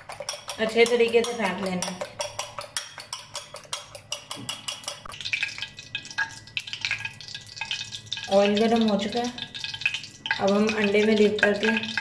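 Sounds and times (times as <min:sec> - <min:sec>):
fork whisking eggs in bowl: 0:00.0 - 0:12.0.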